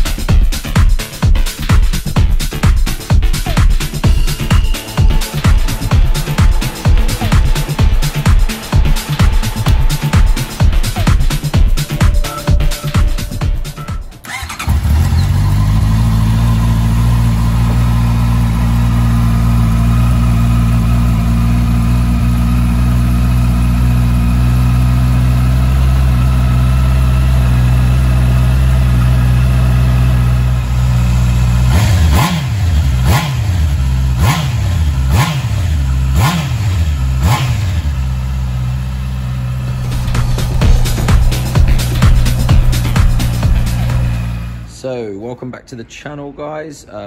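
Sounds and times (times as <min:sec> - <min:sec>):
motorcycle engine revving: 0:01.6 - 0:44.7
motorcycle engine starting and idling: 0:01.6 - 0:44.7.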